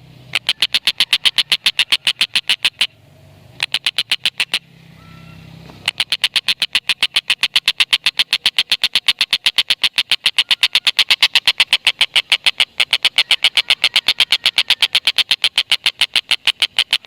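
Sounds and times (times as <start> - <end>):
kingfisher rapid cackling call: 0.3 - 3.0, 3.6 - 17.0.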